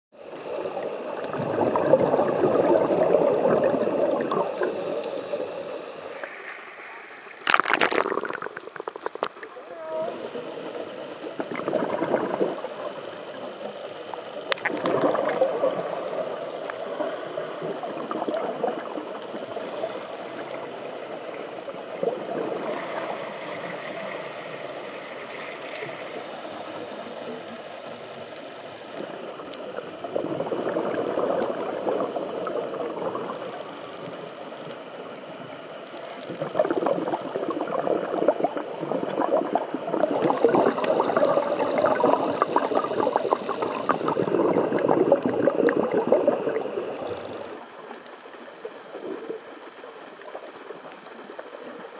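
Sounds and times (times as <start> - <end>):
muffled water noise: 0.1 - 51.9
underwater bubbling of exhaled breath: 0.2 - 51.9.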